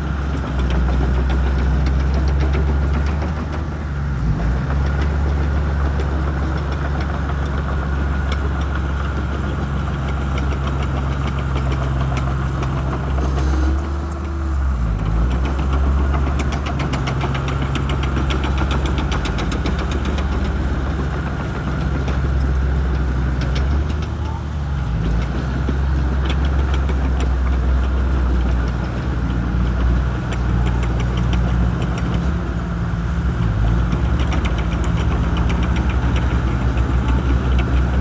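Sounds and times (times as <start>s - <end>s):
bulldozer diesel engine: 0.0s - 38.0s.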